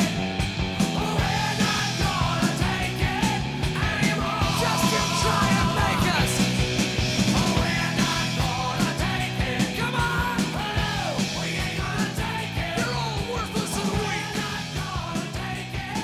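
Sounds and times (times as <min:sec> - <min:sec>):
rock music: 0:00.0 - 0:16.0
steady drum beat: 0:00.0 - 0:16.0
shouted sung vocal: 0:00.8 - 0:16.0.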